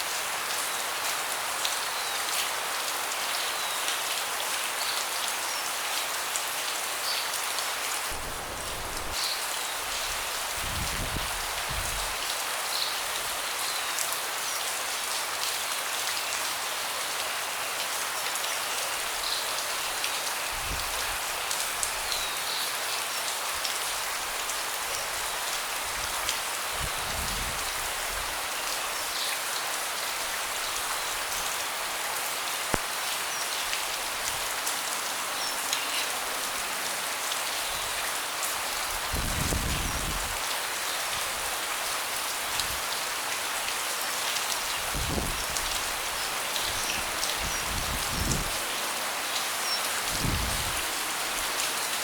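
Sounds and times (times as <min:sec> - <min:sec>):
rain on a deck: 0:00.0 - 0:52.0.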